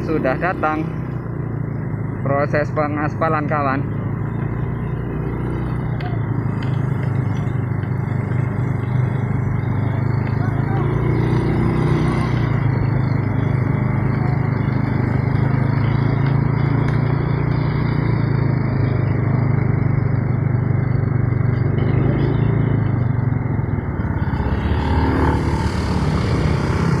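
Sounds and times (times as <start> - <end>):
diesel engine droning: 0.0 - 27.0.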